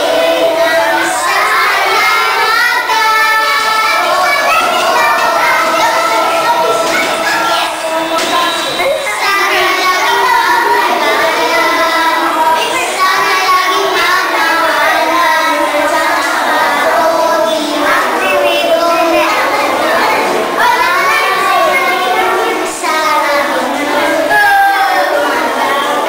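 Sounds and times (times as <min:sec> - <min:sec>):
girls singing together: 0:00.0 - 0:26.0.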